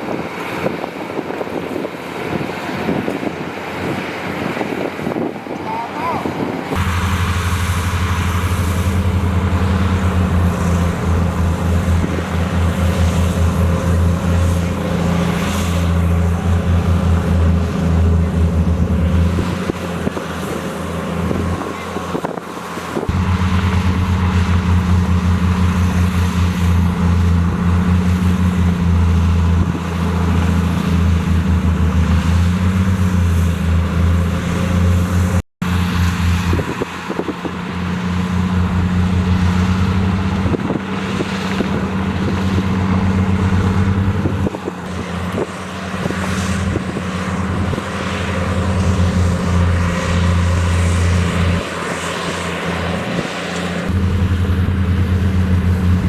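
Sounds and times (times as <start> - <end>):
heavy diesel engine throbbing: 0.0 - 56.0.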